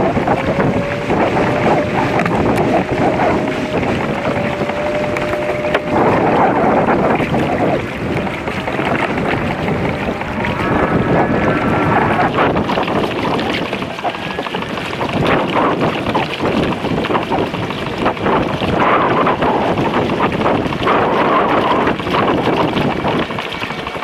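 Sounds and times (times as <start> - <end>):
water sloshing against hull: 0.0 - 24.0
wind buffeting microphone: 0.0 - 24.0.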